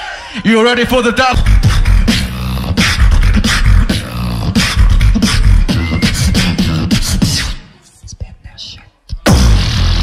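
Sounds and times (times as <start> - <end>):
beatboxing into a microphone: 0.8 - 9.8.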